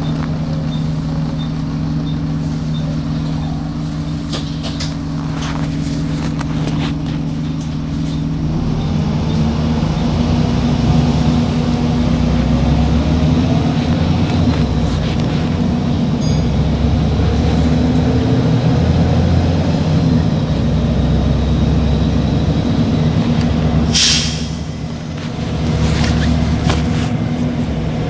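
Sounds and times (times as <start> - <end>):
motor vehicle engine running: 0.0 - 28.0.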